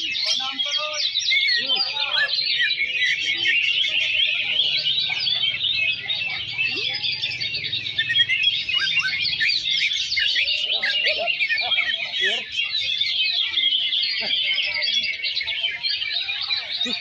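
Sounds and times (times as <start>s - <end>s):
chorus of songbirds chirping: 0.0s - 17.0s.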